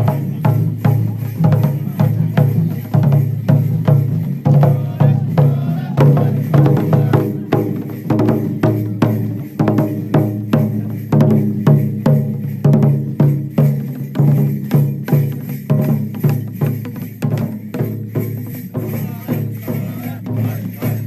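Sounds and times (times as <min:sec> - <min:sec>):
taiko drums beaten in rhythm: 0:00.0 - 0:21.0.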